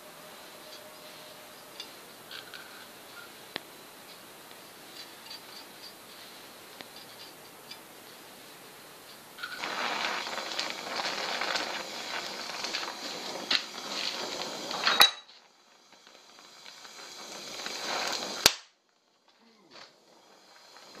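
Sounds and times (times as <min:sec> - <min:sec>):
welding crackling hiss: 0:00.0 - 0:21.0.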